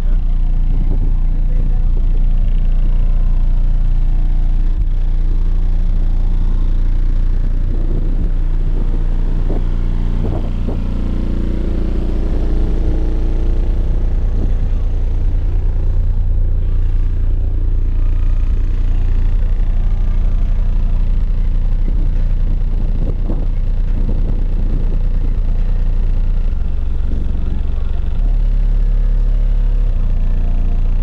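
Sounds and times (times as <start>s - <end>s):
car subwoofer bass rumble: 0.0s - 31.0s.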